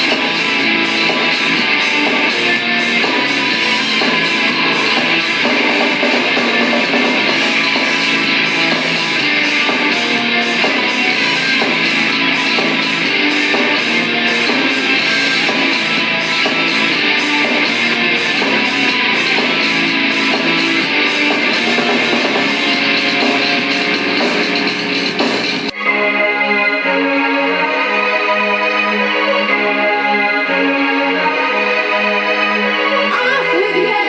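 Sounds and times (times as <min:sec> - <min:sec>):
instrumental rock music: 0:00.0 - 0:34.0.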